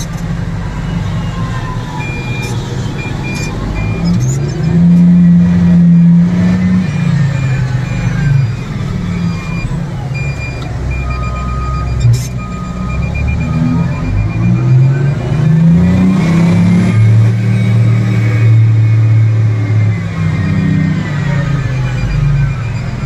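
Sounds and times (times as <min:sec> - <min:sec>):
heavy diesel engine running: 0:00.0 - 0:23.0
faint high beeping: 0:00.8 - 0:16.7, 0:20.4 - 0:23.0.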